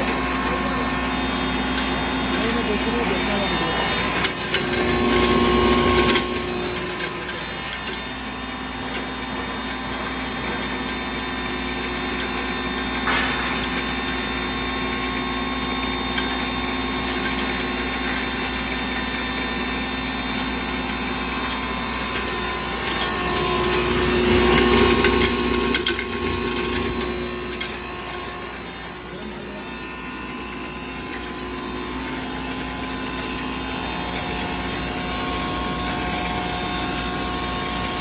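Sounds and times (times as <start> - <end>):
grinding machine humming: 0.0 - 38.0
small grinding clicks: 0.0 - 38.0.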